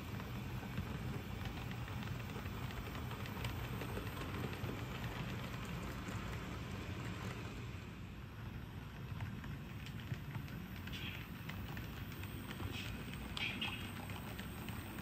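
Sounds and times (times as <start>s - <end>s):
model train humming: 0.0s - 15.0s
wheels clicking on rails: 0.0s - 15.0s.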